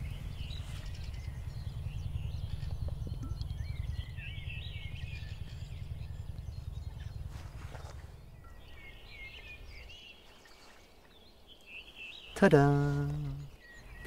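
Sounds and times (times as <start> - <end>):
steady low rumble: 0.0 - 11.5
songbirds singing: 0.0 - 14.0.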